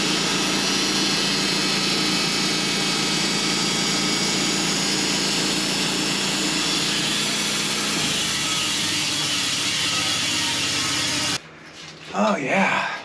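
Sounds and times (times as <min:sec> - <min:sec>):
sawmill engine under load: 0:00.0 - 0:11.4.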